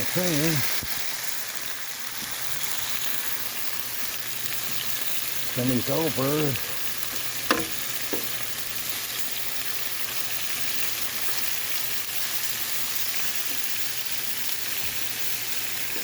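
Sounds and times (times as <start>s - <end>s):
chicken wings sizzling on griddle: 0.0s - 16.0s.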